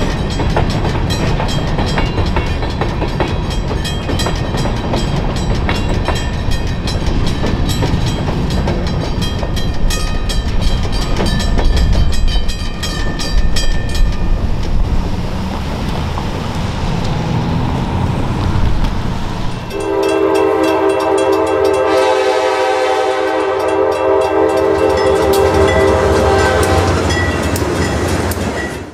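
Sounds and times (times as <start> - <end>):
crossing bells ringing rapidly: 0.0 - 14.9, 19.4 - 28.9
freight train rumbling past: 0.0 - 28.9.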